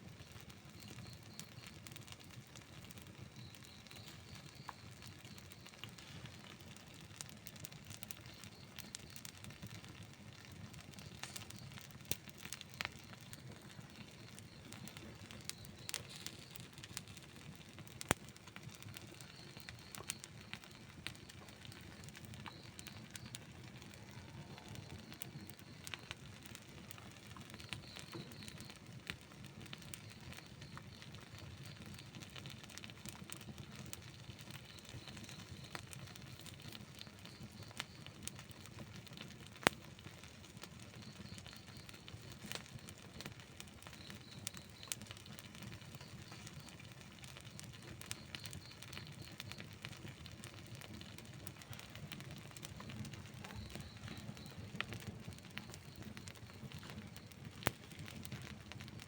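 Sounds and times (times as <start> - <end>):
campfire flames rumbling: 0.0 - 59.0
fire crackles and pops: 0.0 - 59.0.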